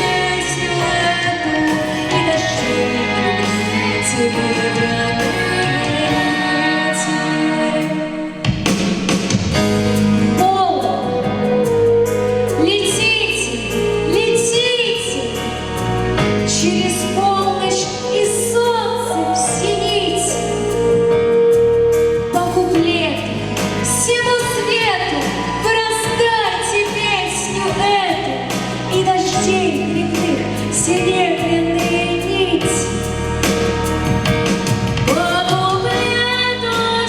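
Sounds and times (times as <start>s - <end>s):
woman singing pop song: 0.0s - 8.7s, 10.3s - 21.6s, 22.2s - 37.0s
instrumental accompaniment with beat: 0.0s - 18.7s, 19.5s - 37.0s.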